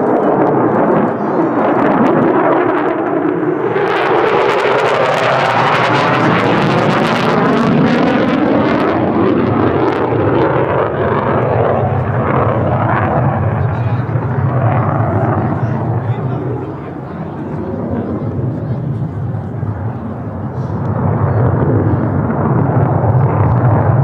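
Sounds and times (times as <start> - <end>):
jet engine roaring: 0.0 - 24.0.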